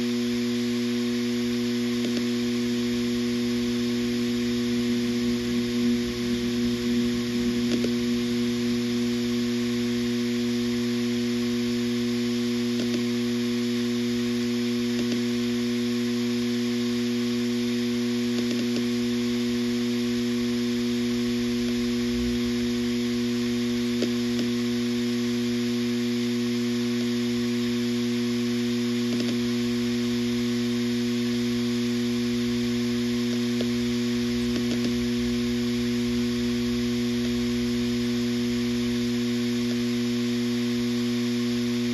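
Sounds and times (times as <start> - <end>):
hard drive spinning hum: 0.0 - 41.9.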